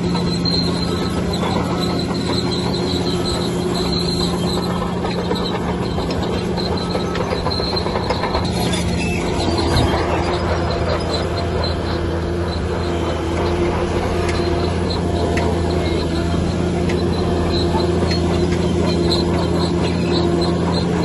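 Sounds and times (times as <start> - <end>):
bulldozer diesel engine humming: 0.0 - 21.0
steel tracks squealing: 0.0 - 21.0
tracks clattering: 0.0 - 21.0.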